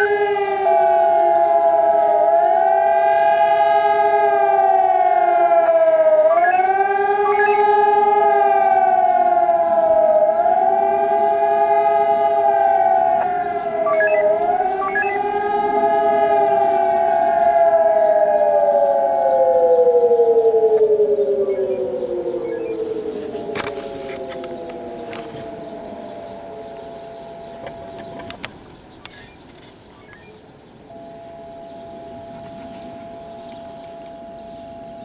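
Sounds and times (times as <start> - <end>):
steady siren tone: 0.0 - 28.9, 30.0 - 35.0
wailing sirens: 0.0 - 35.0.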